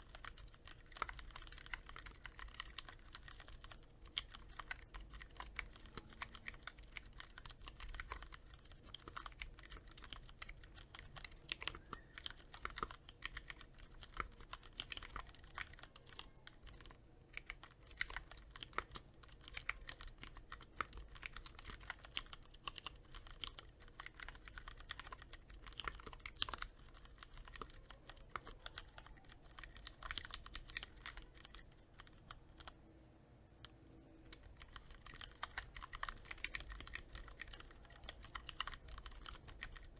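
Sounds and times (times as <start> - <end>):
mechanical keyboard typing: 0.0 - 32.8, 33.6 - 39.9.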